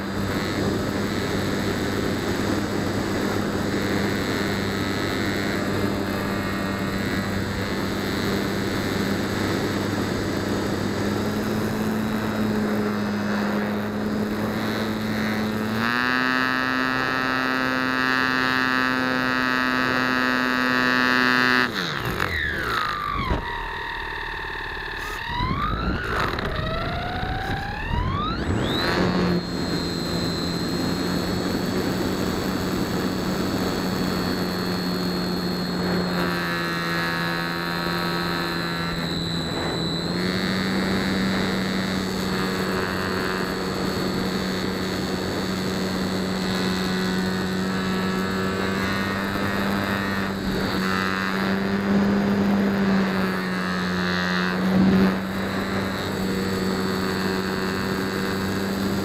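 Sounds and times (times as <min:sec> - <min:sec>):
model plane motor whining: 0:00.0 - 0:59.0.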